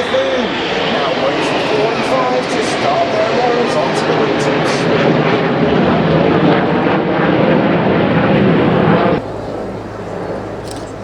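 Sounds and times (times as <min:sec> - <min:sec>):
jets passing by: 0:00.0 - 0:11.0.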